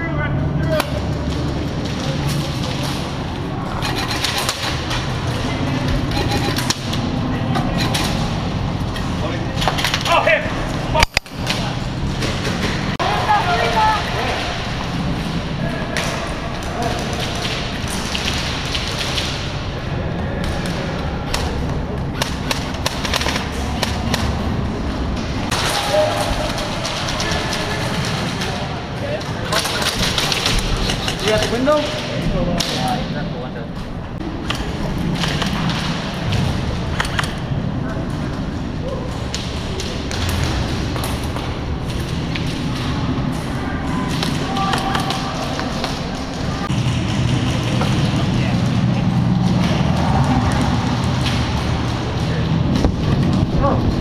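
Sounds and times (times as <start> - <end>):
low rumble of movement: 0.1 - 54.0.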